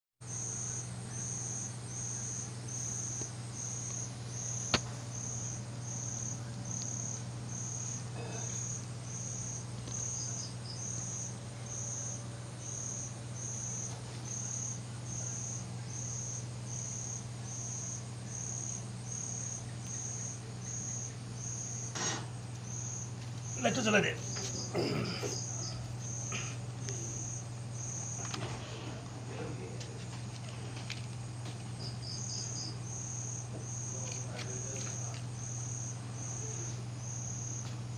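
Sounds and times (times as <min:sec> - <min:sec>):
cricket chirping: 0:00.3 - 0:37.9
steady low hum: 0:00.3 - 0:37.9.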